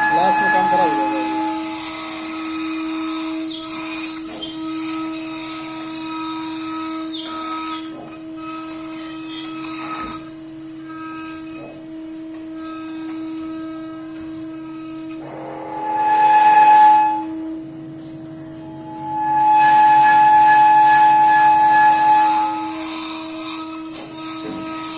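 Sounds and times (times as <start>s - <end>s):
router bit cutting sheet: 0.0s - 24.9s
router spindle whine: 0.0s - 24.9s.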